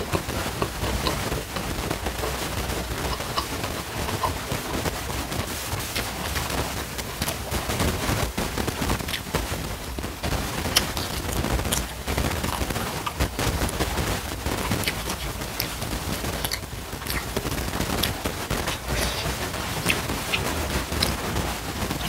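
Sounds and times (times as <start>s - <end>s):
chewing and crunching fried fish: 0.0s - 22.0s
fingers working rice: 0.0s - 22.0s.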